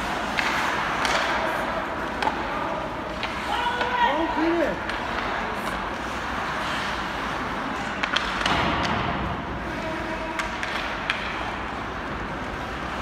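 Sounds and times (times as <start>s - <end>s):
hockey sticks and puck clacking: 0.0s - 13.0s
rink and crowd noise: 0.0s - 13.0s.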